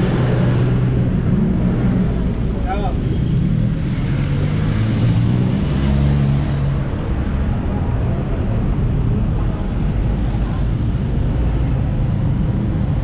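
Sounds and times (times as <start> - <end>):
cars passing by: 0.0 - 13.0
tyres rumbling on road: 0.0 - 13.0.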